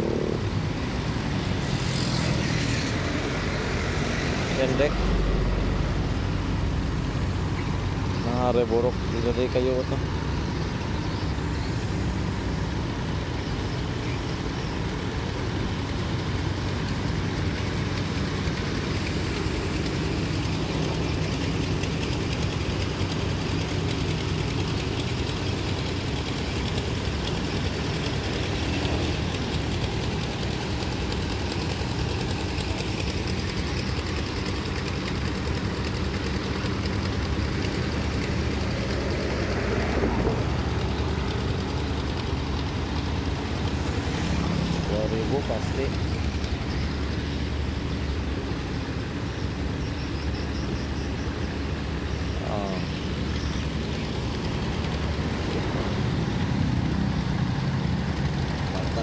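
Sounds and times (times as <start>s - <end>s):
engine rumbling: 0.0s - 59.0s.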